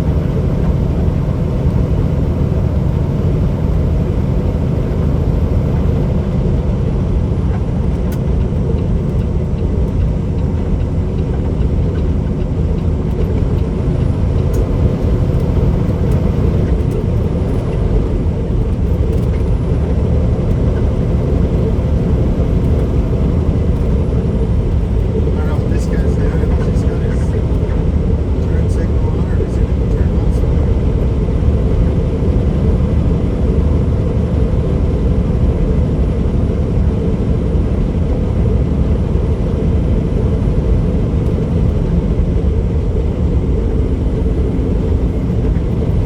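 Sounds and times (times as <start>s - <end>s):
road noise: 0.0s - 46.0s
truck engine drone: 0.0s - 46.0s.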